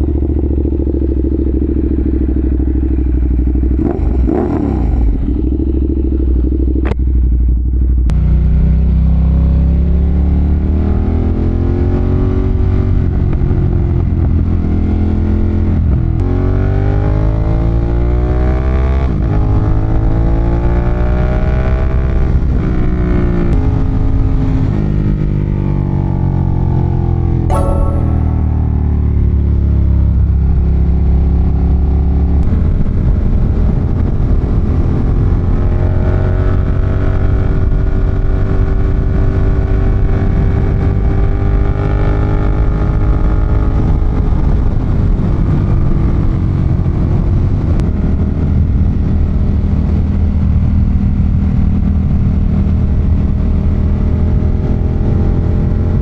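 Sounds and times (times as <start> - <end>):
motorcycle engine idling and accelerating: 0.0 - 27.9, 28.6 - 56.0.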